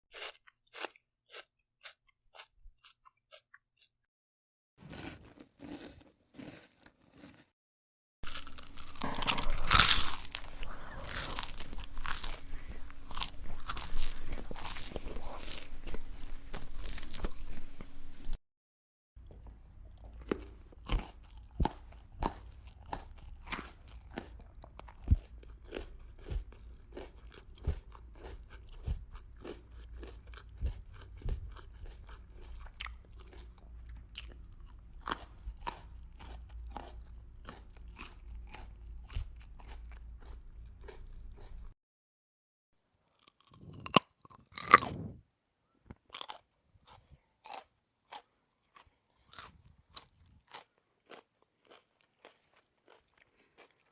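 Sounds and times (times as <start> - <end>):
person chewing crunchy food: 0.1 - 4.0, 4.8 - 7.5, 8.2 - 18.4, 19.2 - 41.8, 43.1 - 45.2, 46.1 - 53.9.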